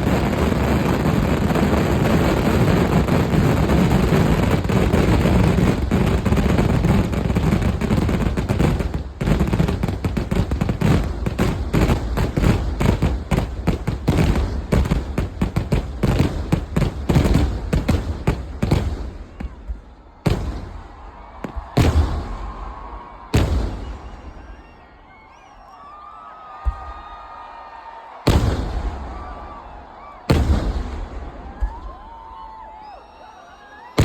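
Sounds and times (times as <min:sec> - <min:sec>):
fireworks bangs: 0:00.0 - 0:25.6, 0:28.0 - 0:32.8.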